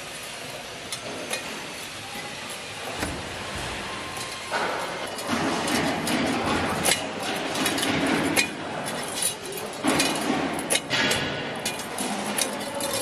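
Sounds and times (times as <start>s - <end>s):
metal spokes clinking: 0.0s - 13.0s.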